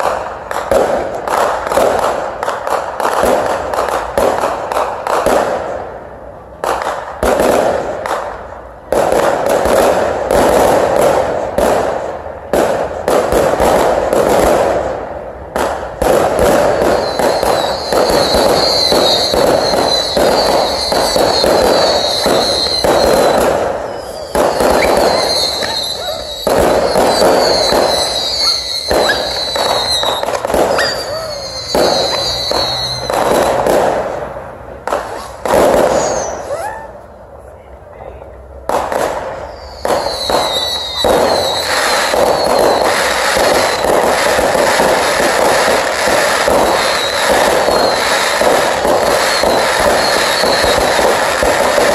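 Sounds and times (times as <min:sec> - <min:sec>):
fireworks bangs and booms: 0:00.0 - 0:37.5, 0:38.3 - 0:51.9.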